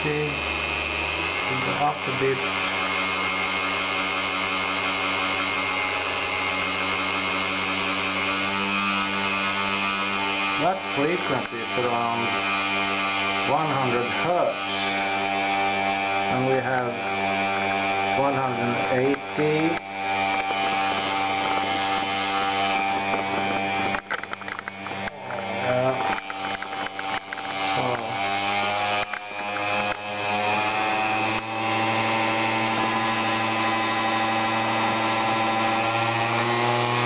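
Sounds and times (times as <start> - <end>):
rotary tool whining: 0.0 - 37.0.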